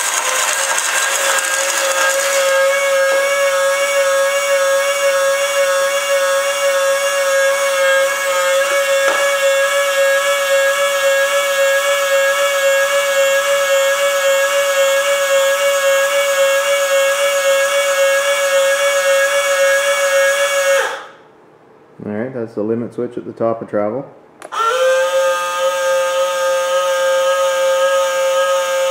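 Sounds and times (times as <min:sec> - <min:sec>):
electric motor high whine: 0:00.0 - 0:21.1, 0:24.4 - 0:28.9.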